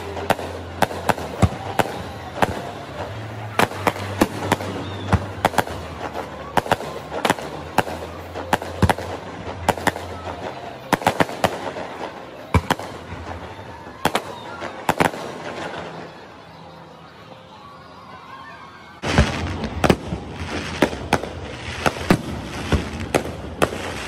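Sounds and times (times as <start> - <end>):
fireworks bursting with sharp bangs: 0.0 - 16.6, 19.0 - 24.0.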